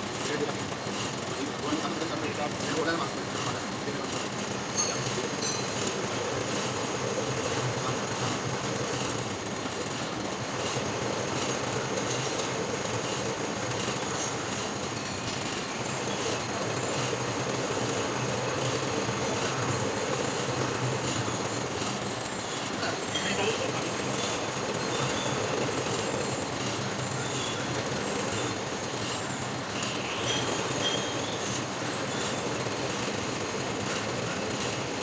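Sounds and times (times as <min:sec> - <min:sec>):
metal lathe running: 0:00.0 - 0:35.0.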